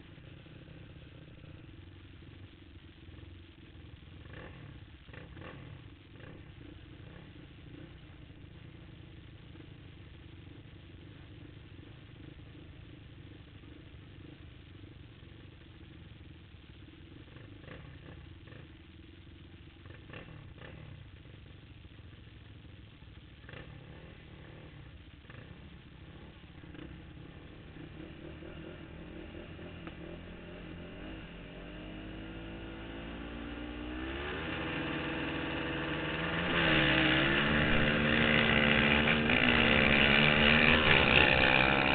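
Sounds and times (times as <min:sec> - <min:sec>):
quad engines idling and revving: 0:00.0 - 0:16.1, 0:17.2 - 0:41.9.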